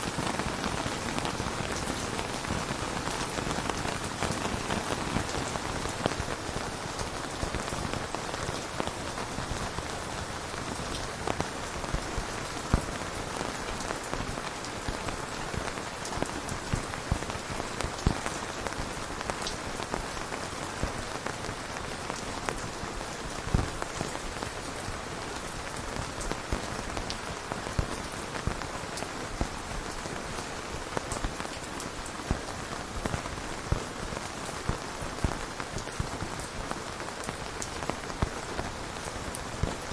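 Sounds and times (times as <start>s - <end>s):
raindrops ticking: 0.0s - 39.9s
steady rain hiss: 0.0s - 39.9s.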